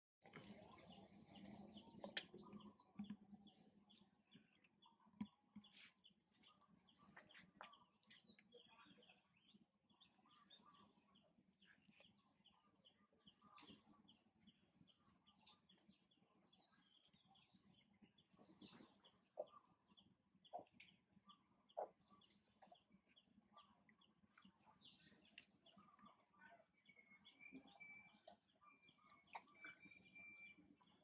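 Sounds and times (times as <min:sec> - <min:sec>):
faint birds chirping: 0:00.2 - 0:31.0.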